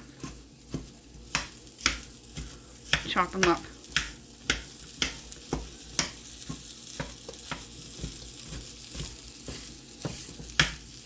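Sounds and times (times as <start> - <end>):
potatoes sizzling in a pan: 0.0 - 11.0
fork knocking on pan bottom: 0.7 - 10.8.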